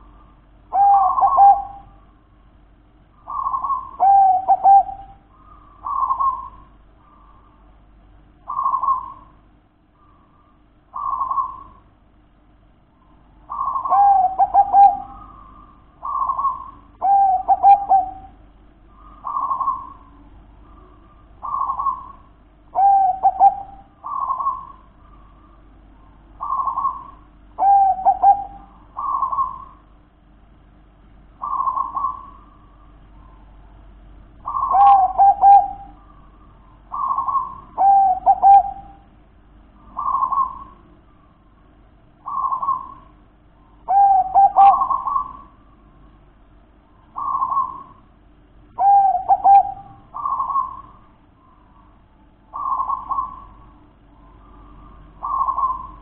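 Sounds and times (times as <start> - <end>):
dove cooing: 0.0 - 2.2, 3.2 - 7.6, 8.4 - 9.4, 10.0 - 11.9, 13.3 - 30.0, 31.4 - 33.6, 34.4 - 39.1, 39.8 - 41.3, 42.2 - 45.9, 47.0 - 48.1, 48.7 - 56.0.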